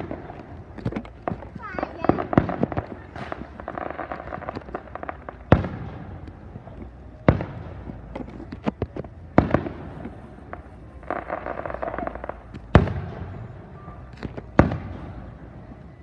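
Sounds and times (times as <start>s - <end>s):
fireworks loud bangs: 0.0s - 8.2s, 9.3s - 15.7s
fireworks popping and crackling: 0.0s - 16.0s.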